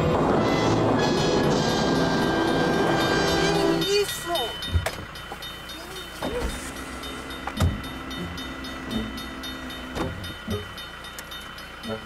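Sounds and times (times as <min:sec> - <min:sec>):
freight train rumbling past: 0:00.0 - 0:12.0
train knocks: 0:00.0 - 0:12.0.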